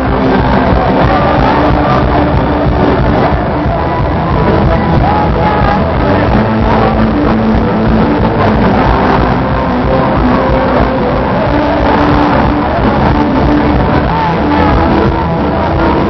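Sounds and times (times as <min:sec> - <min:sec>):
live band playing rock music: 0:00.0 - 0:16.0.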